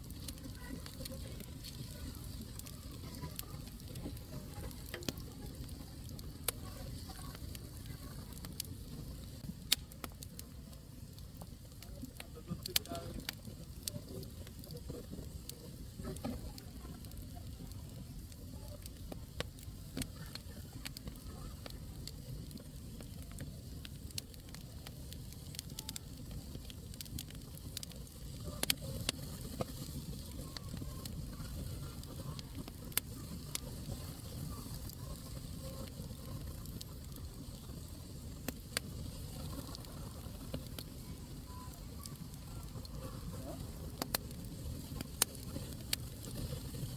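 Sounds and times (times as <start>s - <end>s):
wood fire crackling and popping: 0.0s - 46.9s.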